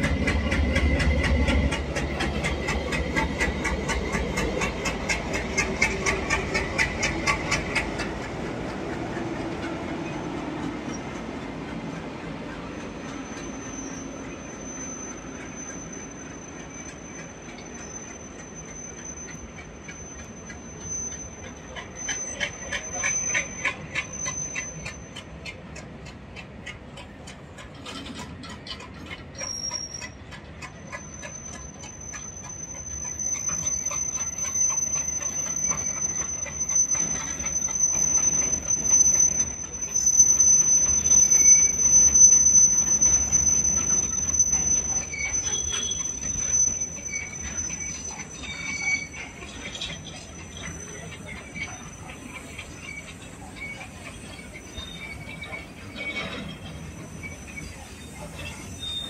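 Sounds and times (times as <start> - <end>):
freight wagons rumbling: 0.0 - 59.0
train wheels squealing on rails: 0.0 - 59.0
wheels clicking on rails: 0.0 - 59.0.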